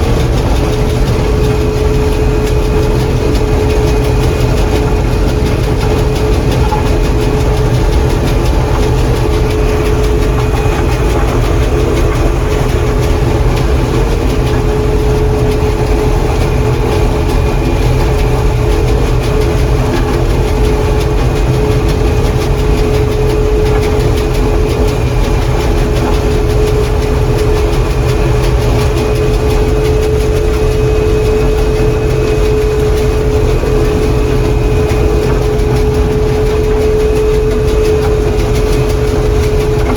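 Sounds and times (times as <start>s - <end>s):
combine harvester drone and whine: 0.0s - 39.9s.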